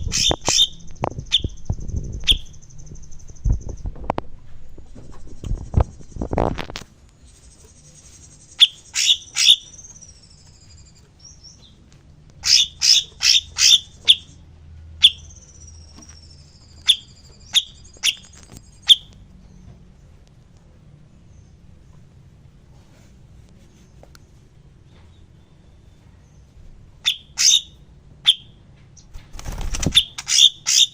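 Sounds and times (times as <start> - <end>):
songbird chirping: 0.0 - 6.3, 7.1 - 22.5, 23.5 - 30.9.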